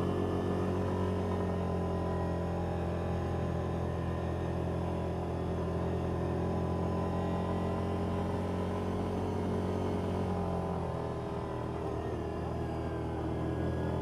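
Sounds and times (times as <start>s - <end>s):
engine droning while driving: 0.0s - 14.0s.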